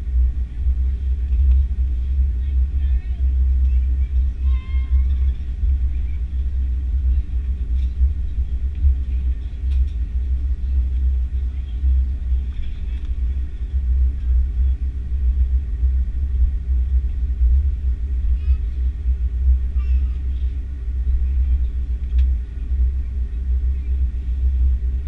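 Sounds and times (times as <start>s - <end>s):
airliner cabin low rumble: 0.0s - 25.0s.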